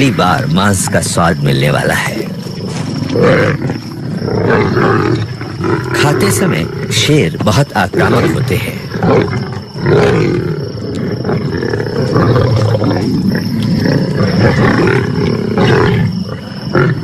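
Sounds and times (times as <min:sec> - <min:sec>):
lions growling and snarling: 0:00.0 - 0:17.0.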